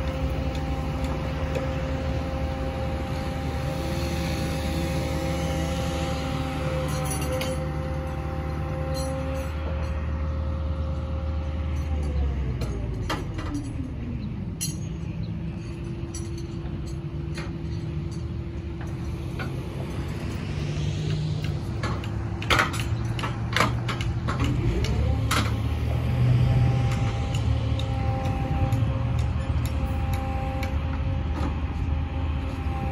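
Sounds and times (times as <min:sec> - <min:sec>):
crane engine running: 0:00.0 - 0:32.9.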